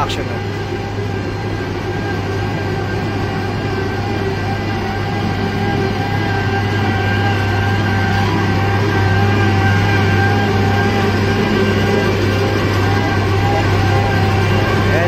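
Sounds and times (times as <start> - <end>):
diesel engine drone: 0.0 - 15.0
steady machine whine: 0.0 - 15.0.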